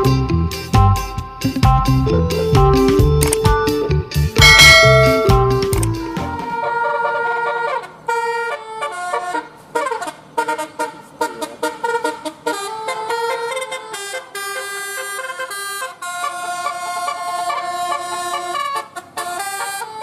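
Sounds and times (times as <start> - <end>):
multi-tone bus horn melody: 2.1 - 20.0.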